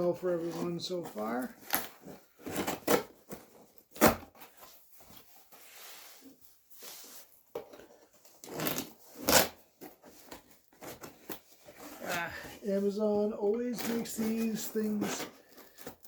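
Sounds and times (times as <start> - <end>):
cardboard box rustling and tearing: 0.0 - 5.8, 7.0 - 16.0.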